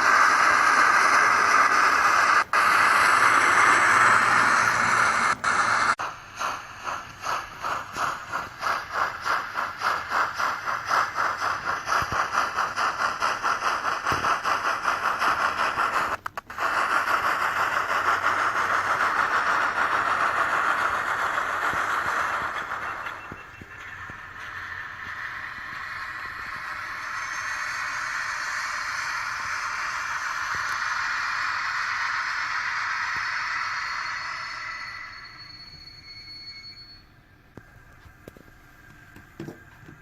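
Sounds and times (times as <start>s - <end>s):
steady steam hiss: 0.0s - 36.1s
steam locomotive chuffs from loudspeaker: 0.0s - 37.2s.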